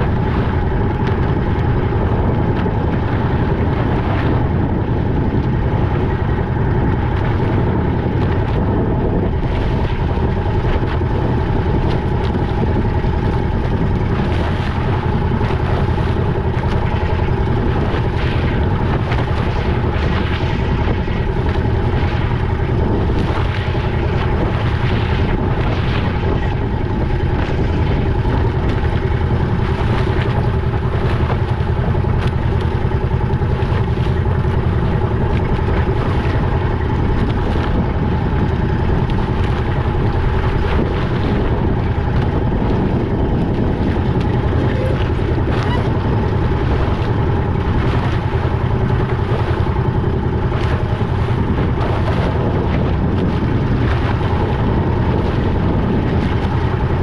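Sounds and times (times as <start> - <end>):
boat engine drone: 0.0 - 57.0.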